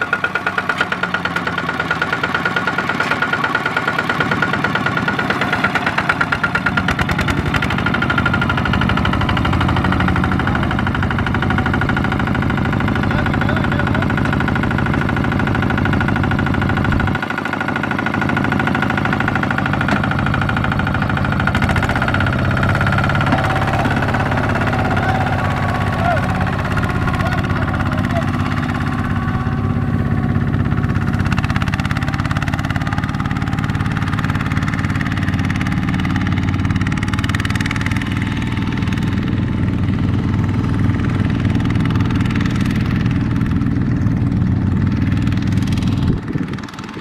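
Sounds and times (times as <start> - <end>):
walking tractor diesel engine: 0.0 - 47.0.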